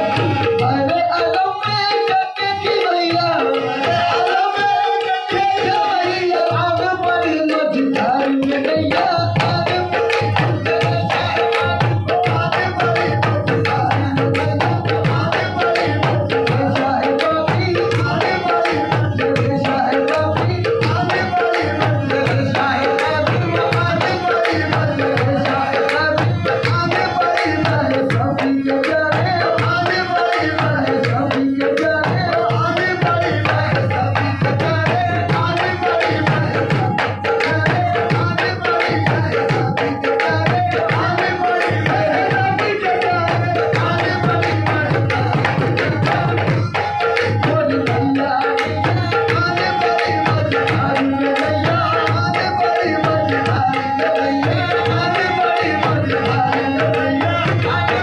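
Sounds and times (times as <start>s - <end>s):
tabla drumming: 0.0s - 58.0s.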